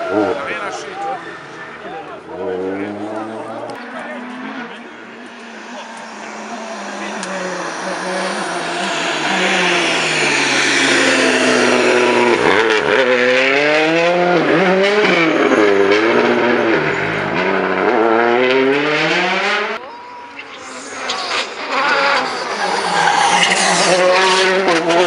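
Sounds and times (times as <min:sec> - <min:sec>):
car approaching: 0:00.0 - 0:25.0
rally car engine revving: 0:00.0 - 0:25.0.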